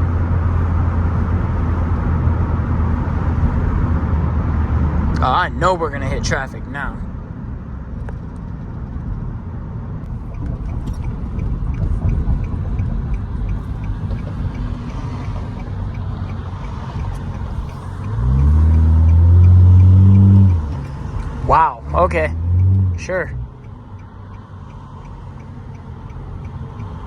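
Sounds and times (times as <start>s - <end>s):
car exhaust rumbling: 0.0s - 27.0s.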